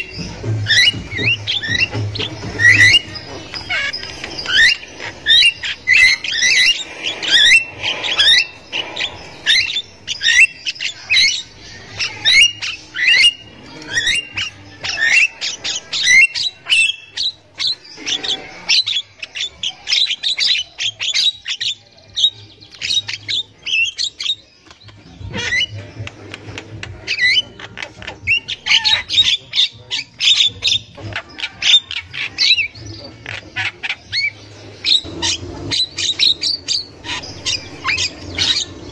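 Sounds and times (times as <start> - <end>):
mynas calling: 0.0 - 38.9.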